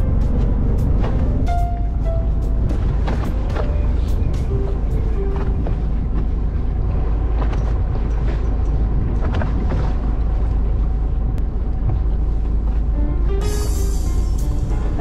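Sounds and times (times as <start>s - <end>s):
boat engine rumble: 0.0s - 15.0s.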